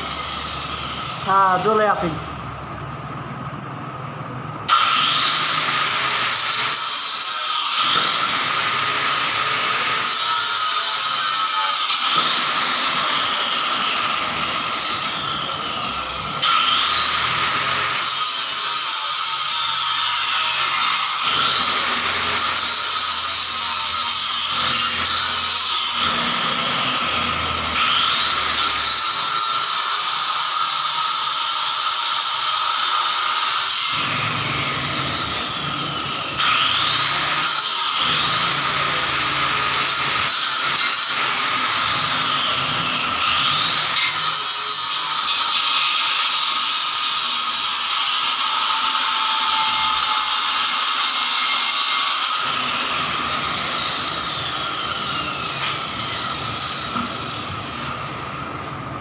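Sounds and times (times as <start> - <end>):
power tool running: 0.0 - 3.2, 4.6 - 59.0.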